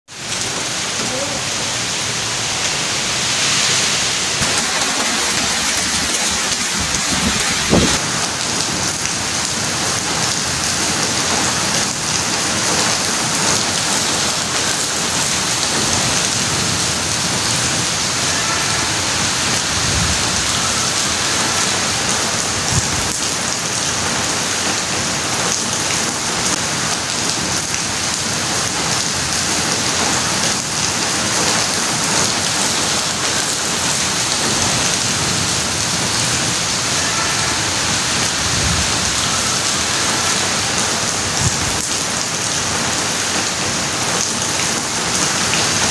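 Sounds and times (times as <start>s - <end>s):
steady rain falling: 0.1s - 45.9s.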